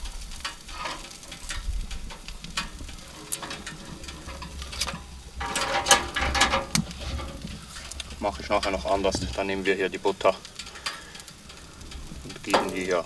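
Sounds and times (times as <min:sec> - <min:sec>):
metal tongs clicking on grill grate: 0:00.0 - 0:09.6, 0:10.4 - 0:13.0.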